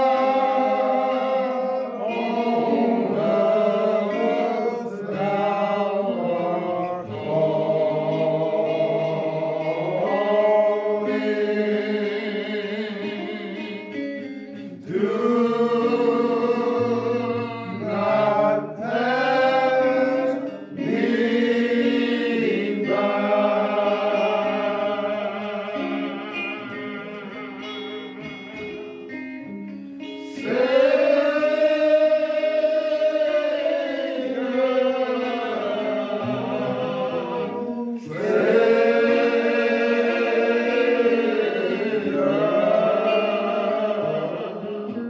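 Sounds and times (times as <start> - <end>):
choir singing: 0.0 - 45.0.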